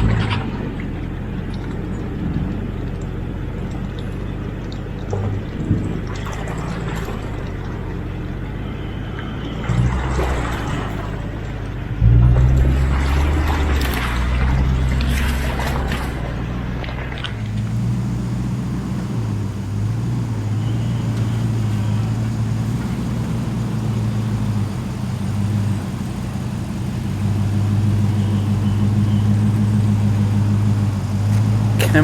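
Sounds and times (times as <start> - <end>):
engine running at low revs: 0.0 - 32.0.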